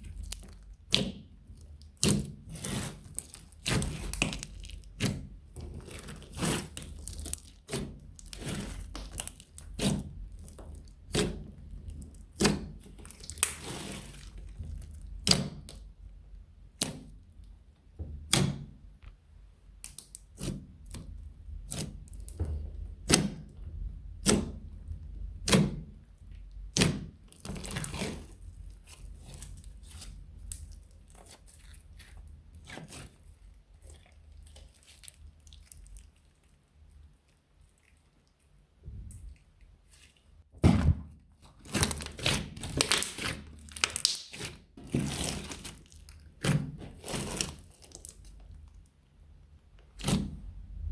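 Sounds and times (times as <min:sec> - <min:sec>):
slime kneaded by hand: 0:00.0 - 0:16.0, 0:16.6 - 0:49.0.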